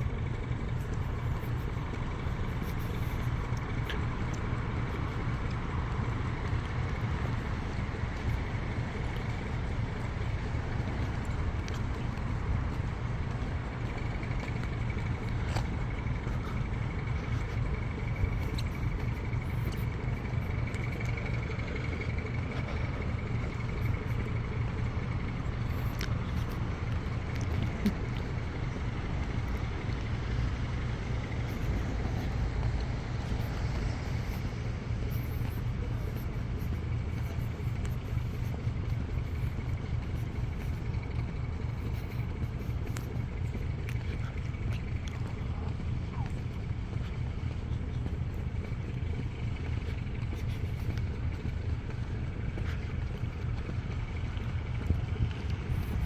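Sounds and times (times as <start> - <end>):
low engine drone: 0.0 - 56.0
faint clicks: 0.4 - 56.0.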